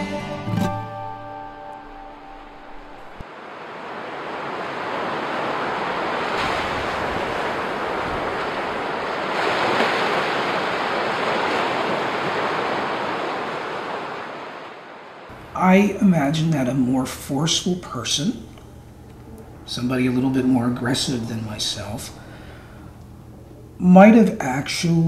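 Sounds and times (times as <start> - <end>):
ocean surf on beach: 0.8 - 25.0.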